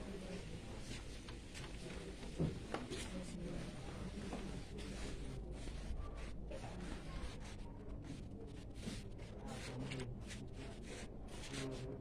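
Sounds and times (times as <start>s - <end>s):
faint indistinct voices: 0.0s - 12.0s.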